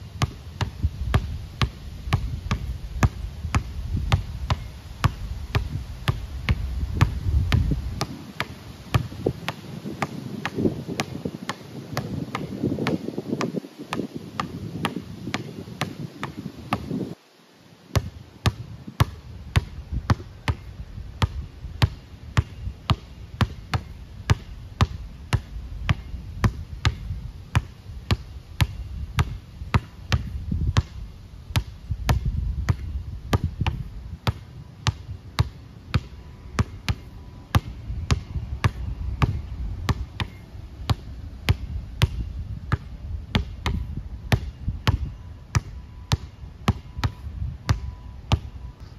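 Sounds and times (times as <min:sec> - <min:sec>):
basketball bouncing on concrete: 0:00.2 - 0:17.0, 0:18.0 - 0:48.6.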